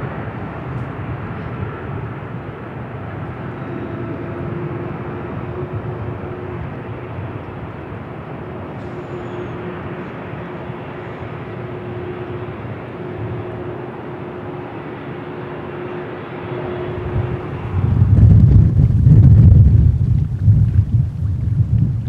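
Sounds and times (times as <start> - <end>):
droning tone: 0.0 - 22.0
jet engines at takeoff thrust: 0.0 - 22.0.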